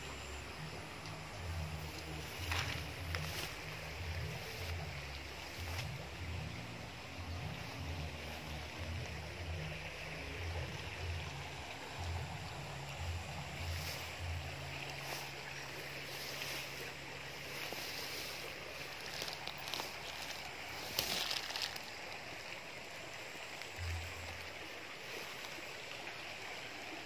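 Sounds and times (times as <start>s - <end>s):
grass rustling underfoot: 0.0s - 26.6s.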